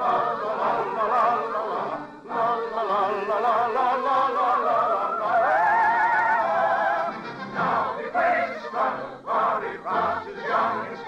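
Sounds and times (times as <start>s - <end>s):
operatic voice singing: 0.0s - 11.0s.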